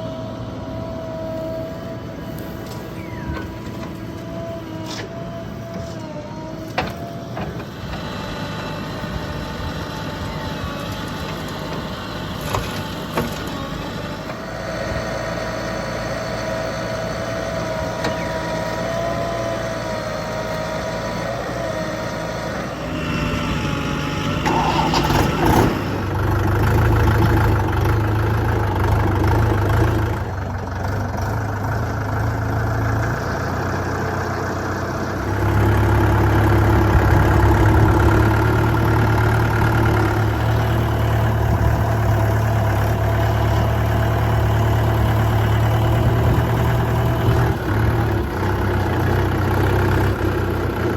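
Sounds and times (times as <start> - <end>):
diesel machinery engine running: 0.0 - 50.9.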